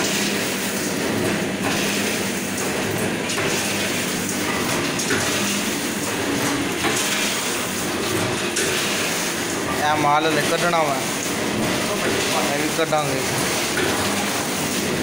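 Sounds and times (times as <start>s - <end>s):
packing machine clattering rhythmically: 0.0s - 15.0s.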